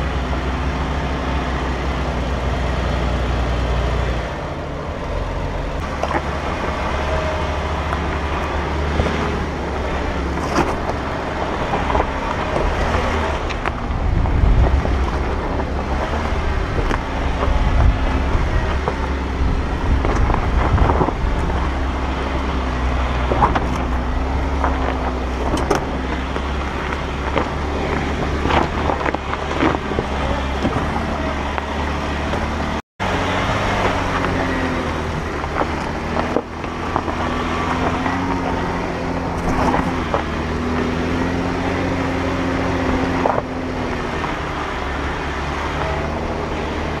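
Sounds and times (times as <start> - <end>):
engine running at low revs: 0.0 - 47.0
tyres crunching on rocks: 5.7 - 47.0.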